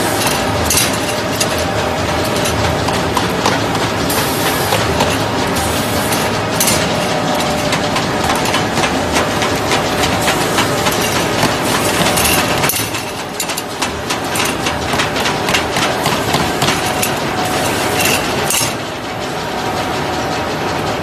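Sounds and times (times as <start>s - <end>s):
machine mechanical clatter: 0.0s - 21.0s
rapid mechanical ticking: 0.0s - 21.0s.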